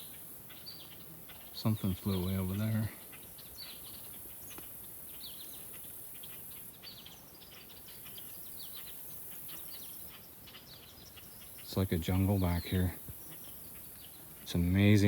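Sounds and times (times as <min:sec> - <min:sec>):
high insect hiss: 0:00.0 - 0:15.0
small birds chirping: 0:00.0 - 0:15.0.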